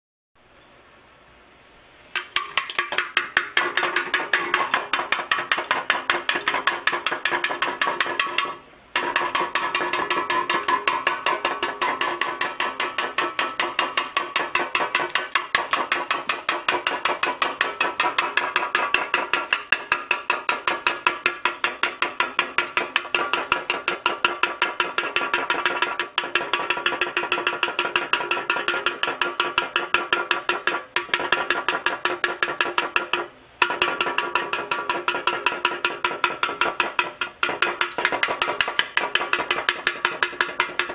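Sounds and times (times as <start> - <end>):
rapid ringing knocking: 2.2 - 40.9.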